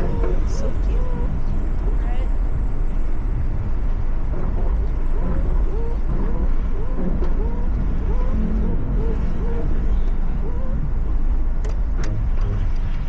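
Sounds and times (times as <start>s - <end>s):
road rumble: 0.0s - 13.0s
wind buffeting through car window: 0.0s - 13.0s.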